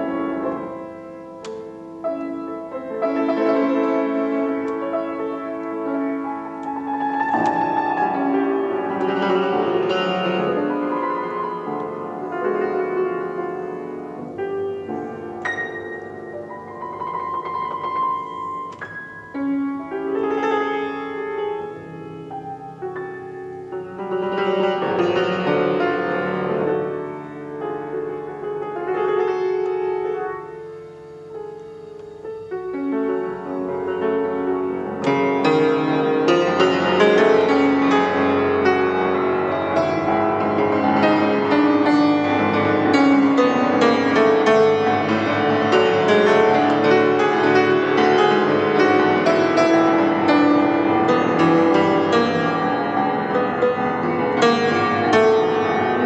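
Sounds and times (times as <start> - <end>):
solo piano improvisation: 0.0 - 56.0.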